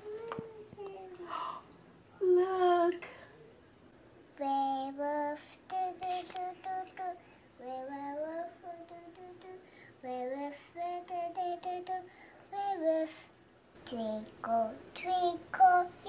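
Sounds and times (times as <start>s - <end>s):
young child singing: 0.0s - 1.3s, 4.4s - 16.0s.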